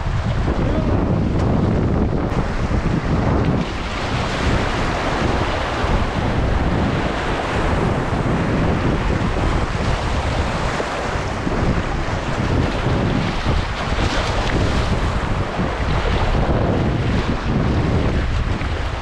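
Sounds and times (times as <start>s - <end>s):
whitewater rapids rushing: 0.0s - 19.0s
wind buffeting microphone: 0.0s - 19.0s.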